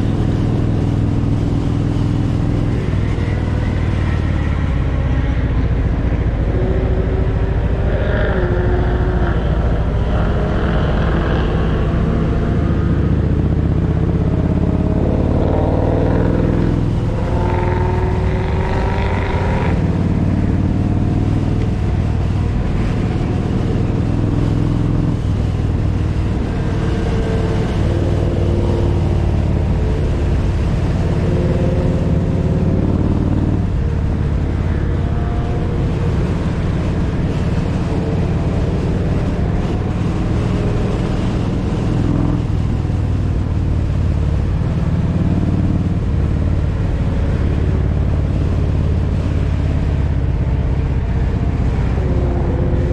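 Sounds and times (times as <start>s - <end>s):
road and wind noise: 0.0s - 52.9s
motorcycle engine running: 8.5s - 52.9s.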